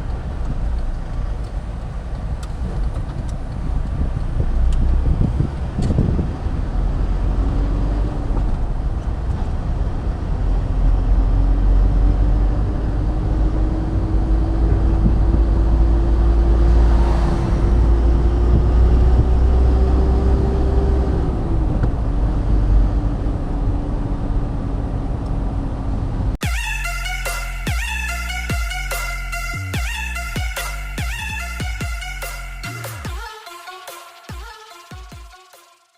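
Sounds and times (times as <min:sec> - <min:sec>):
car engine hum: 0:00.0 - 0:33.1
low road rumble: 0:00.0 - 0:33.6.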